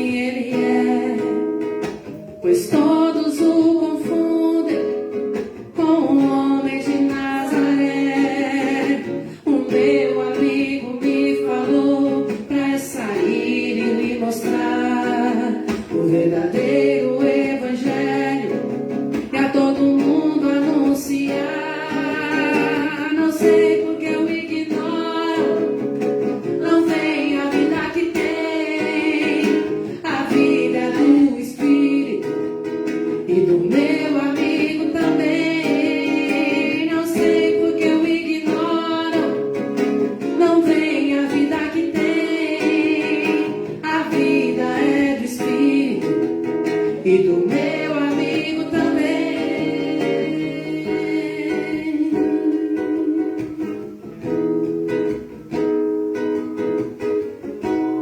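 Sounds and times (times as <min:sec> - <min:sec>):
person singing: 0:00.0 - 0:01.6, 0:02.2 - 0:54.3
plucked guitar: 0:00.0 - 0:58.0.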